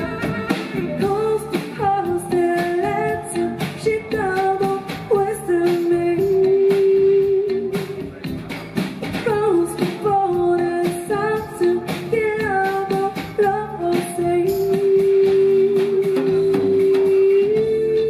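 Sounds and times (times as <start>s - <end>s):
woman singing through microphone: 0.0s - 8.1s, 9.2s - 18.0s
drum kit: 0.0s - 18.0s.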